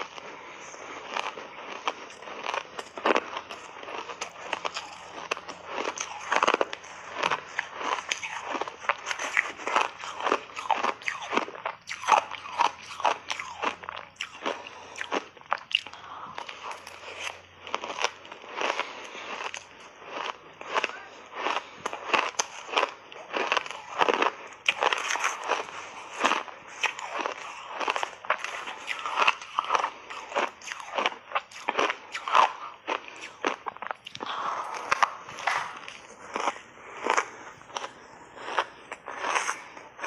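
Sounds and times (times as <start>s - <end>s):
crunching shaved ice: 0.0s - 40.0s.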